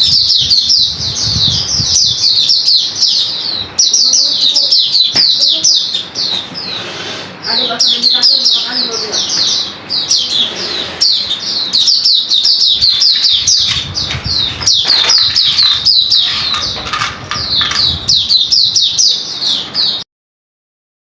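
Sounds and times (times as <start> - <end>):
small cage birds chirping: 0.0 - 20.1.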